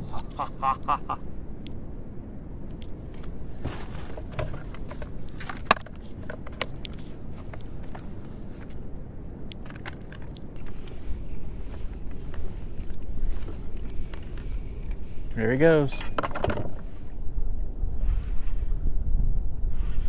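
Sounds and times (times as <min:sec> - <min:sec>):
low rumble of wind and water: 0:00.0 - 0:20.0.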